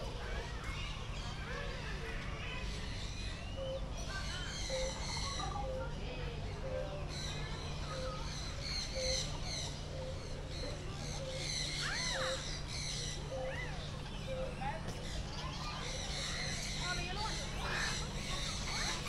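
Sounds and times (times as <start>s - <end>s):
high chattering bird calls: 0.2s - 19.0s.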